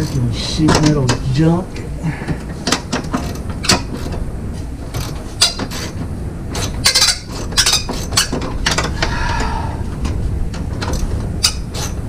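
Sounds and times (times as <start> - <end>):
sheet metal clanking and scraping: 0.0 - 12.0.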